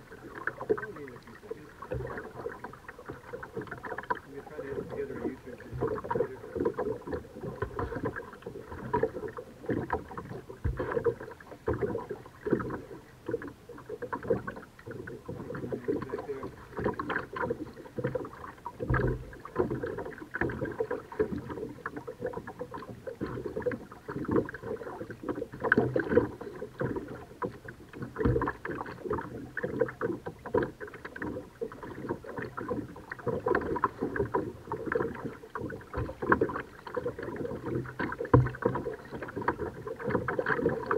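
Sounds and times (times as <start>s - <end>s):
kayak paddle splashing: 0.0s - 40.9s
water sloshing against hull: 0.0s - 40.9s.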